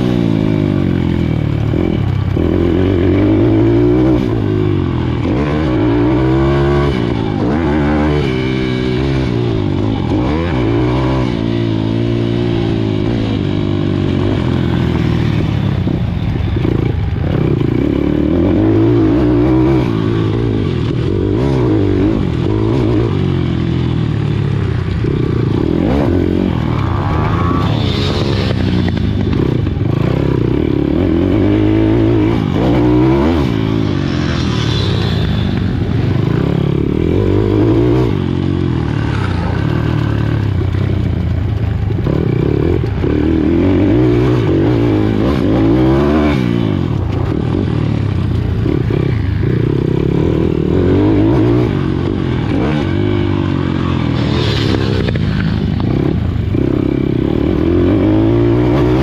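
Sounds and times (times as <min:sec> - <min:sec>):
bike rattling: 0:00.0 - 0:50.8
pit bike engine revving: 0:00.0 - 0:59.0.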